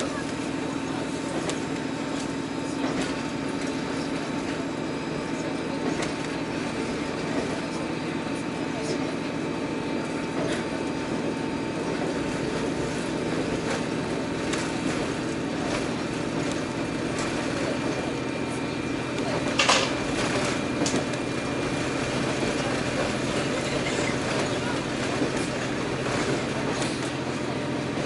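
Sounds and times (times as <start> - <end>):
railcar engine and rolling drone: 0.0 - 28.0.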